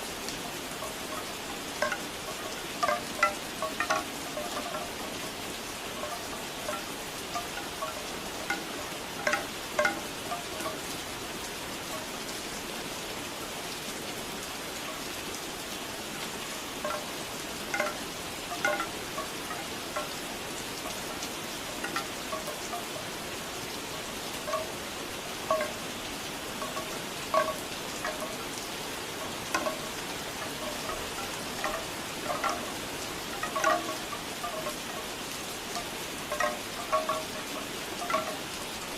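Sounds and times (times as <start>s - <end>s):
bamboo wind chimes clacking: 0.0s - 12.7s, 14.8s - 38.9s
steady rain: 0.0s - 38.9s.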